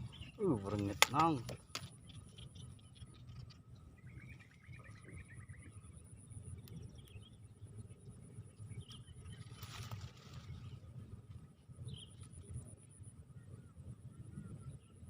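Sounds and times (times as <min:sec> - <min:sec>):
faint insect-like tones: 0:00.0 - 0:15.0
wind rumble on microphone: 0:00.0 - 0:15.0.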